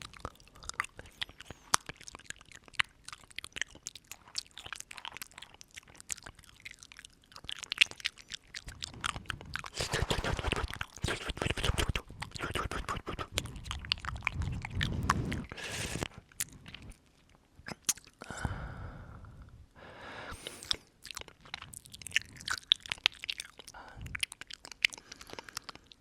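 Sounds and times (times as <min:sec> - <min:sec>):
wet mouth clicks and smacks: 0:00.0 - 0:18.3, 0:20.4 - 0:26.0.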